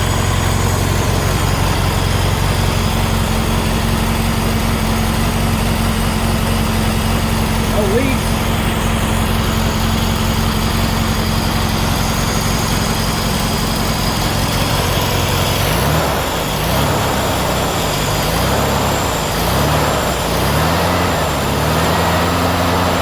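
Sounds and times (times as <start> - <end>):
engine idling and revving: 0.0 - 23.0.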